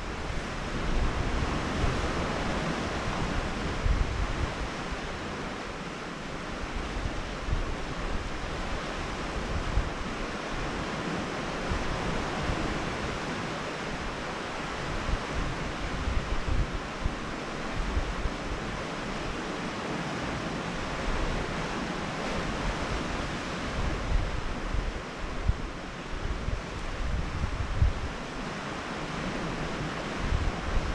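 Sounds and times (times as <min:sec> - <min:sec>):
wind buffeting microphone: 0:00.0 - 0:05.6, 0:06.4 - 0:30.9
sea surf on rocky shore: 0:00.0 - 0:30.9.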